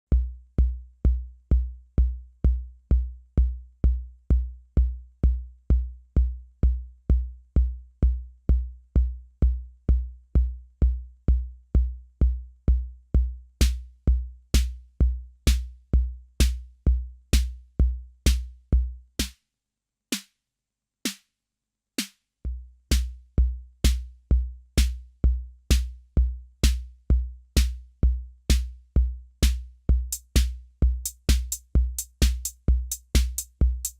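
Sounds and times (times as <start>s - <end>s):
drum machine kick drum: 0.0s - 19.4s, 22.0s - 33.9s.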